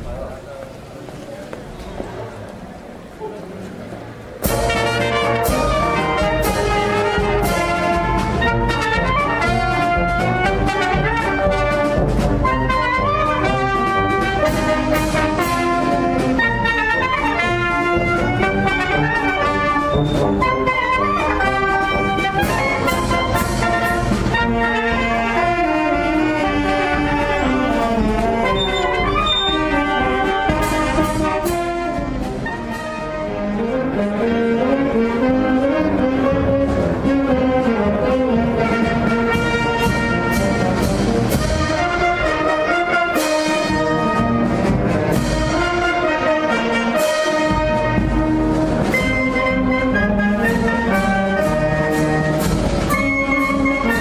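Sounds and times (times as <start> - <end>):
marching band playing: 3.6 - 54.0.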